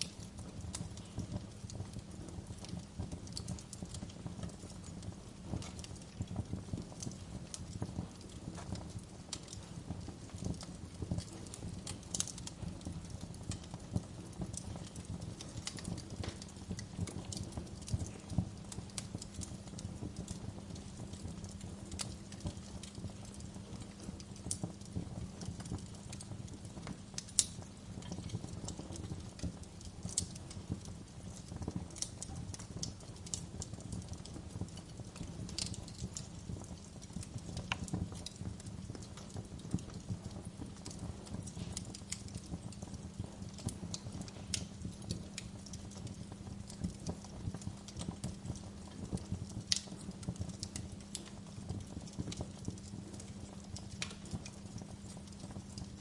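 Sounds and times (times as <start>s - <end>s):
low rumble of burning logs: 0.0s - 56.0s
wood fire crackling: 0.0s - 56.0s.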